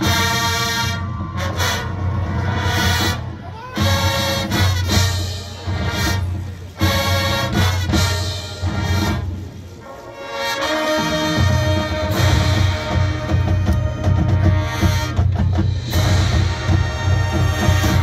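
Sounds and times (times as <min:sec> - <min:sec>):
brass: 0:00.0 - 0:18.0
drums: 0:00.0 - 0:18.0
marching band playing: 0:00.0 - 0:18.0.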